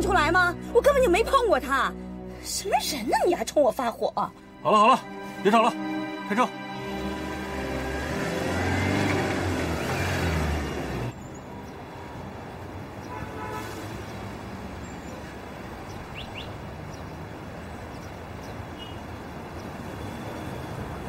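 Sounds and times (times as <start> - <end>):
street traffic hum: 0.0 - 21.0.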